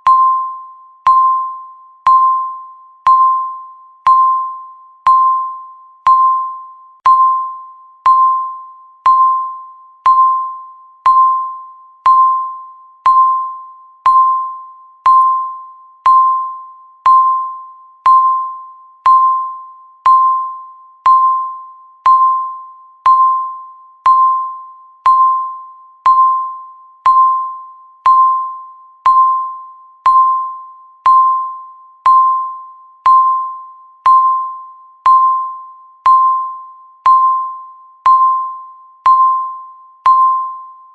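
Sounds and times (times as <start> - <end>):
countdown timer beeping: 0.0 - 40.8.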